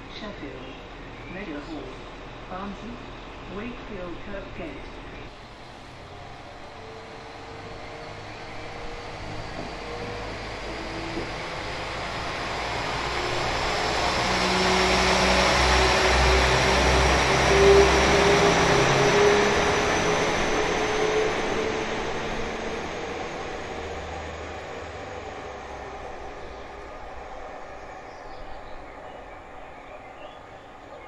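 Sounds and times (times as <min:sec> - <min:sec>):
diesel train engine drone: 0:00.0 - 0:31.0
train wheels on rails: 0:05.2 - 0:31.0.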